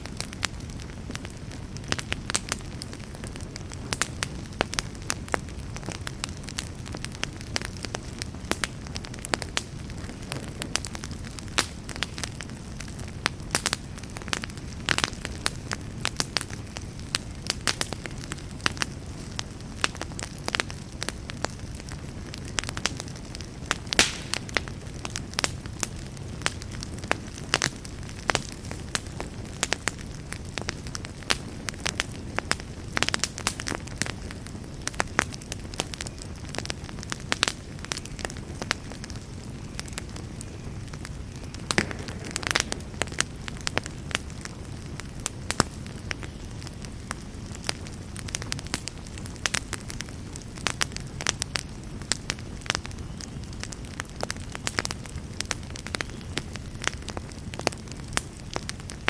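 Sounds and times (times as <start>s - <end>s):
campfire flames rumbling: 0.0s - 59.0s
fire crackles and pops: 0.0s - 59.0s.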